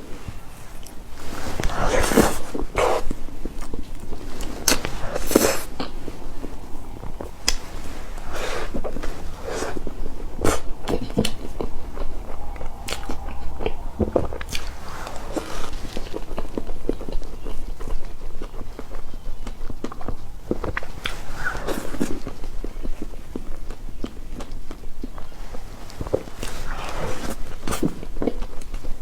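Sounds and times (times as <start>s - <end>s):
biting and chewing cake: 0.0s - 29.0s.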